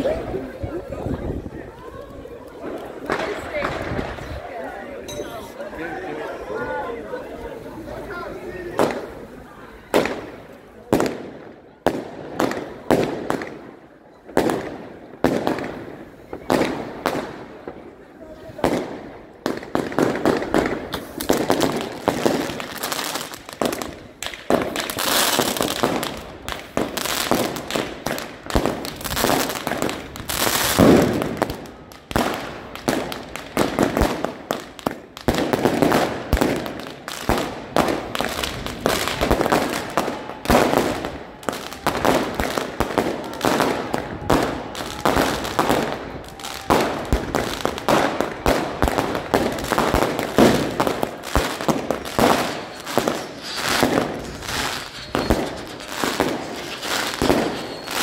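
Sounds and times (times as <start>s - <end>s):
firecrackers banging and crackling: 1.8s - 5.6s, 8.4s - 58.0s.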